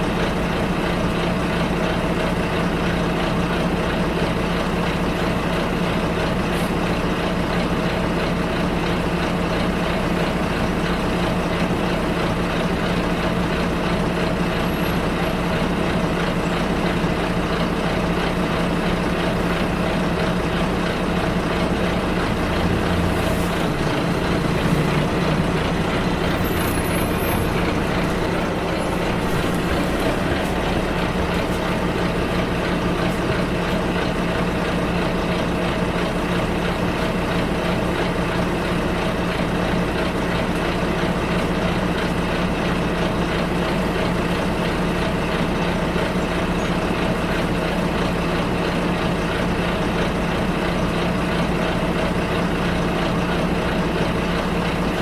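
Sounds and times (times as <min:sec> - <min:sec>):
bus engine running: 0:00.0 - 0:55.0
road noise: 0:00.0 - 0:55.0.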